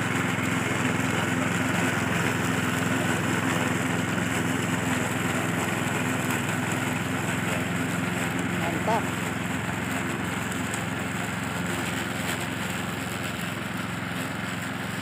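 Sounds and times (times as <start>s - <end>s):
lawn mower cutting grass: 0.0s - 15.0s.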